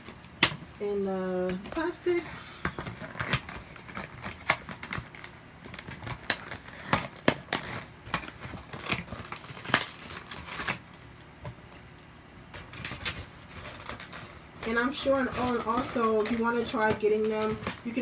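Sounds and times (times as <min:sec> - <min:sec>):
plastic packaging crinkling: 0:01.5 - 0:11.3, 0:12.5 - 0:18.0.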